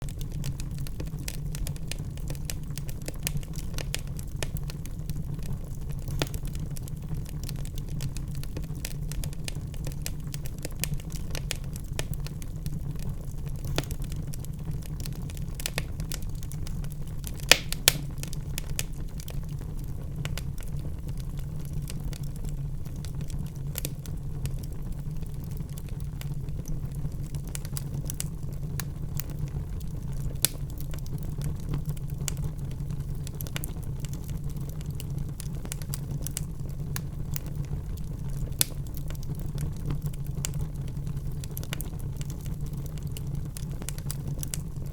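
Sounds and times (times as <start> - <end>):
sharp pops from fire: 0.0 - 44.9
wood fire crackling: 0.0 - 44.9.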